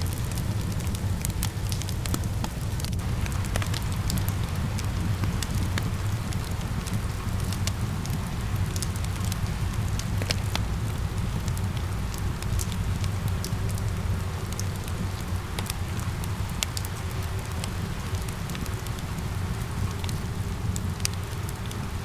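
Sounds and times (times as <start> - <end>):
crackling wood fire: 0.0 - 22.0
rain hiss: 0.0 - 22.0.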